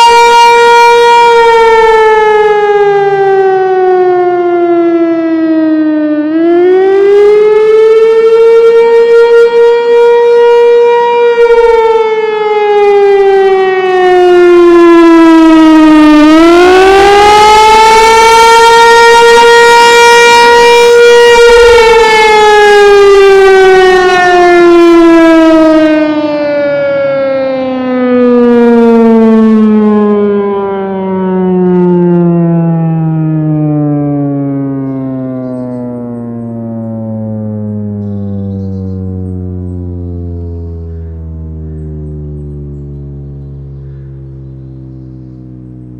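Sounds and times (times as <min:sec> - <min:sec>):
warning siren rising and falling wail: 0:00.0 - 0:45.9.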